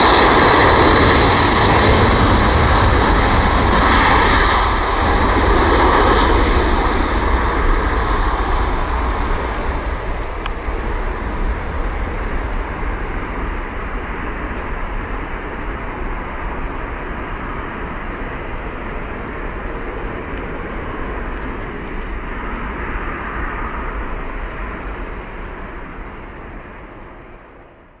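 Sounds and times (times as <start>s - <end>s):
jet engines rumbling at takeoff: 0.0s - 28.0s.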